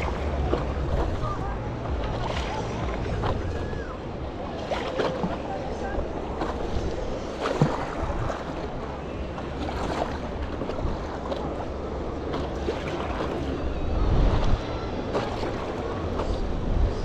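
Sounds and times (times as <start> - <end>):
paddle splashing in water: 0.0 - 17.0
water lapping against paddleboard: 0.0 - 17.0
wind buffeting microphone: 0.0 - 17.0.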